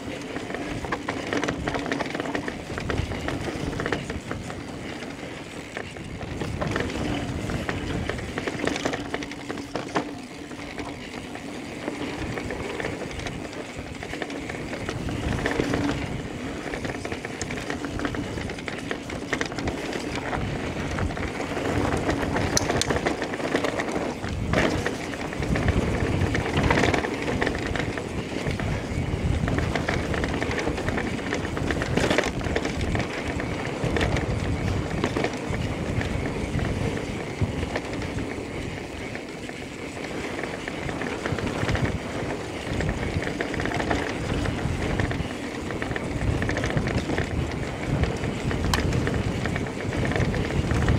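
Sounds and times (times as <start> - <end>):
bike knocks and rattles: 0.0 - 50.9
tyres rolling over dirt: 0.0 - 50.9.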